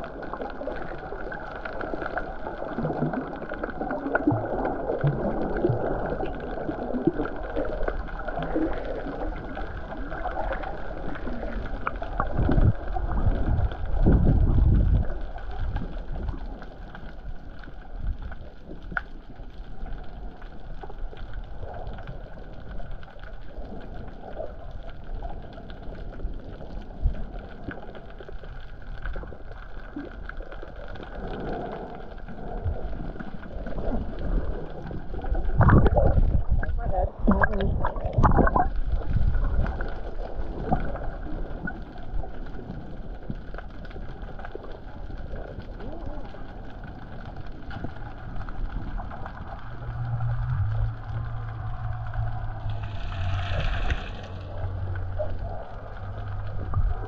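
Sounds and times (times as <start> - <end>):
faint crackles: 0.0 - 57.0
low water surges: 0.0 - 57.0
muffled underwater water noise: 0.0 - 57.0.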